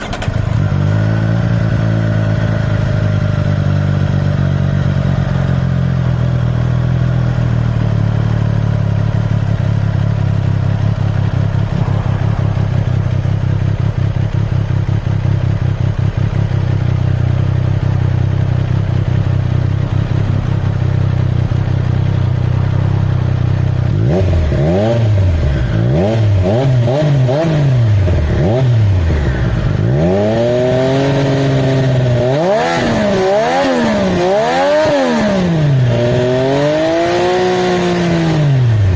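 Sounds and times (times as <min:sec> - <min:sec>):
motorcycle engine idling: 0:00.0 - 0:26.4, 0:27.2 - 0:32.3
motorcycle engine revving: 0:00.0 - 0:38.9.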